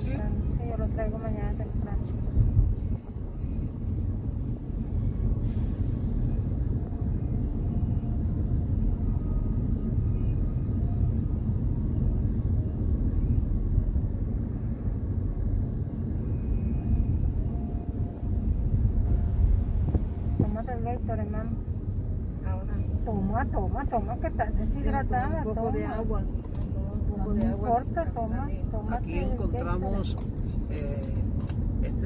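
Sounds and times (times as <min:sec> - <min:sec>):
car driving road rumble: 0:00.0 - 0:32.0.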